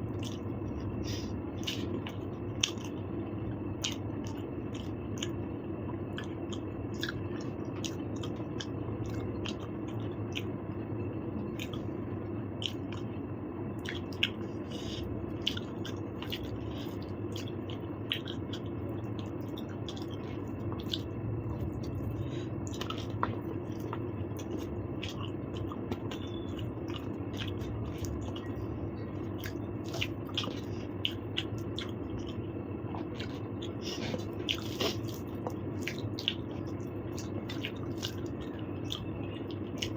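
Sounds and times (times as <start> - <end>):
chewing with wet mouth smacks: 0.0 - 10.8, 11.4 - 39.9
steady low hum: 0.0 - 39.9.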